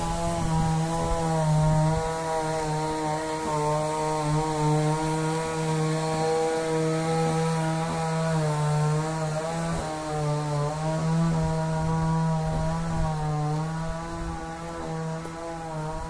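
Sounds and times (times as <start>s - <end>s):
chainsaw engine running: 0.0s - 16.0s.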